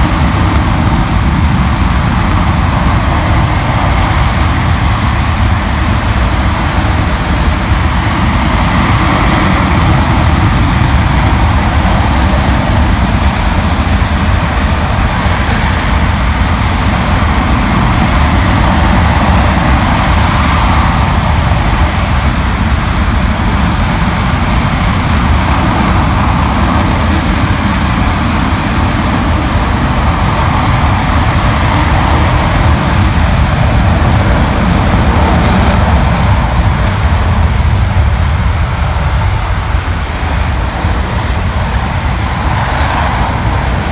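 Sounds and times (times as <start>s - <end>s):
rocket engine firing: 0.0s - 43.9s.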